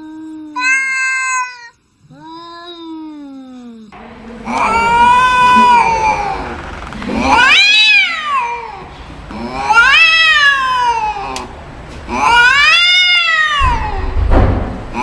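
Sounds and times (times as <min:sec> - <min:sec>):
angry cat yowling: 0:00.6 - 0:03.4, 0:04.4 - 0:11.5, 0:12.1 - 0:14.2.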